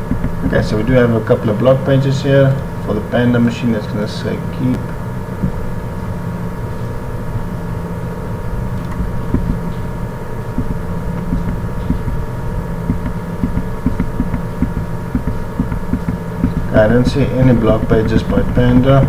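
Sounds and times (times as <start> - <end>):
faint steady tones: 0.0 - 19.0
machine hum with low rumble: 0.0 - 19.0.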